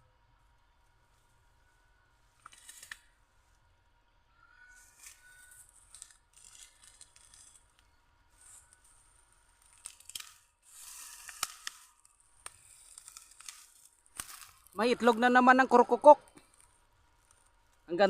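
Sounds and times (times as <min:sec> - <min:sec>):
dry grass and leaves rustling: 0:00.0 - 0:18.0.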